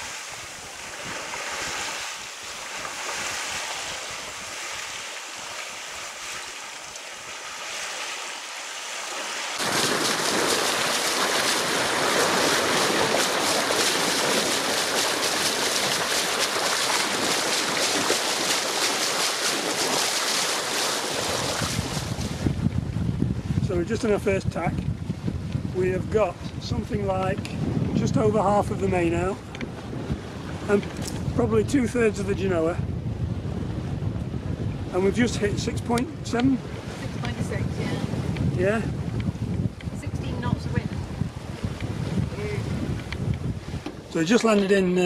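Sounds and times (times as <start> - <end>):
wind buffeting microphone: 0.0 - 7.4, 9.6 - 45.0
water rushing along hull: 0.0 - 45.0.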